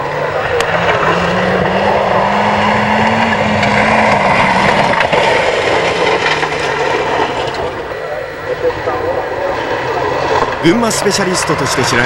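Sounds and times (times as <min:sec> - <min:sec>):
rally car engine running hard: 0:00.0 - 0:12.0
tyre and gravel noise: 0:00.0 - 0:12.0.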